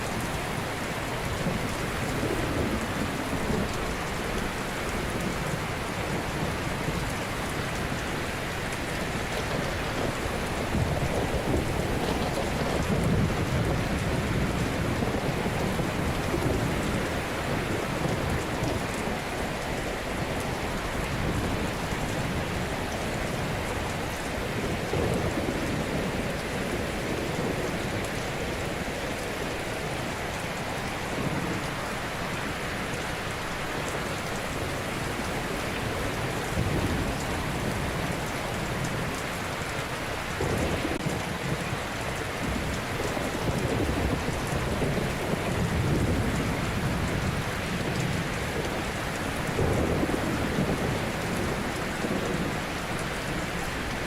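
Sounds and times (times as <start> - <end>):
deep rumble of large waves: 0.0 - 54.0.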